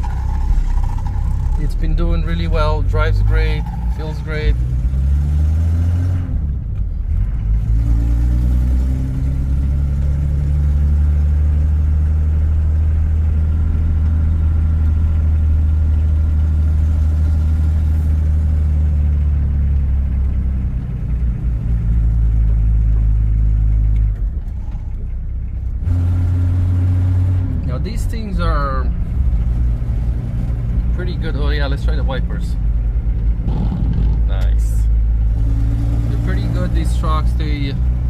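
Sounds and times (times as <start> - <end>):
diesel engine driving under load: 0.0 - 38.0.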